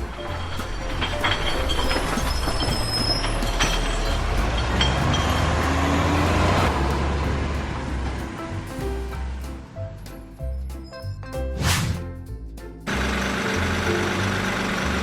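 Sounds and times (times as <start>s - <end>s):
rumbling vehicle noise: 0.0s - 15.0s.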